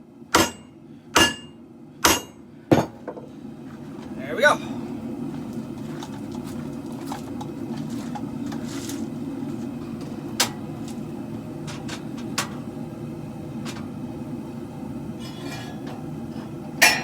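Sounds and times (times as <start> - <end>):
forge burners rushing: 3.3 - 17.0.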